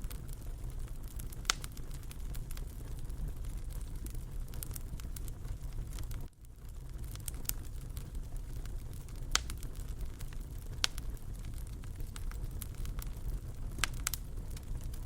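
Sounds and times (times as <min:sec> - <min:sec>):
low rumble of burning: 0:00.0 - 0:15.0
sharp pops of fire: 0:00.0 - 0:15.0
wood fire crackling: 0:00.0 - 0:15.0.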